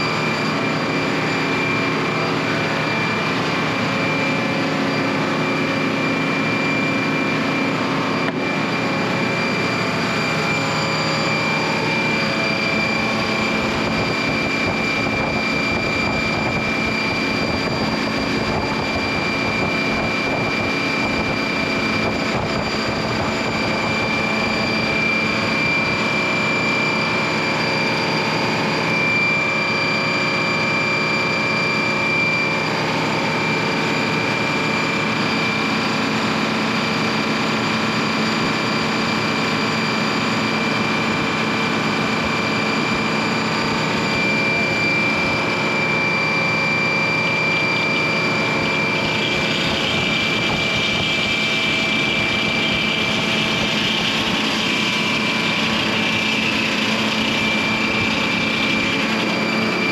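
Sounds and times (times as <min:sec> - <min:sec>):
engine running with high whine: 0:00.0 - 0:59.9.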